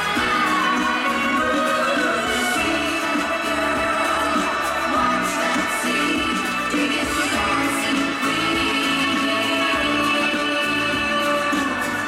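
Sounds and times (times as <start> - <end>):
pop music over loudspeakers: 0.0 - 12.0.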